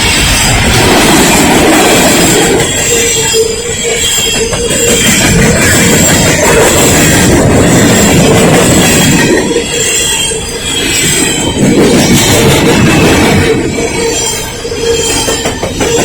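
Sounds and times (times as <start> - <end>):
high-pitched wheel squeal: 0.0 - 16.0
steel wheels rumbling on rails: 0.0 - 16.0.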